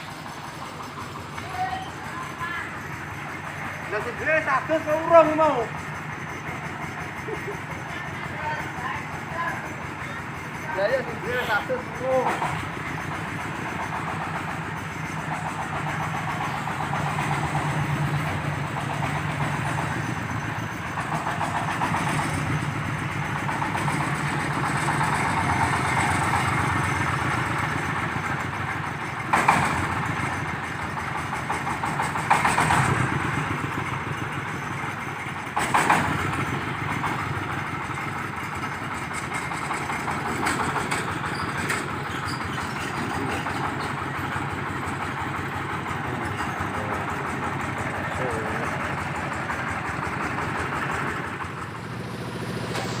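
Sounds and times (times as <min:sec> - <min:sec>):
corn sheller running: 0:00.0 - 0:53.0.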